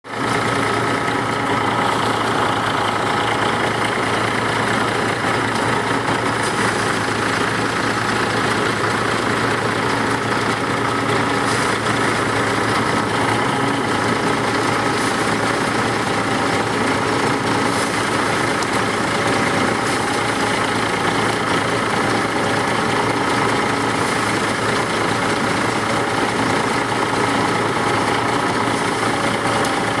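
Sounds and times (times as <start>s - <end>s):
harvester engine drone: 0.0s - 30.0s.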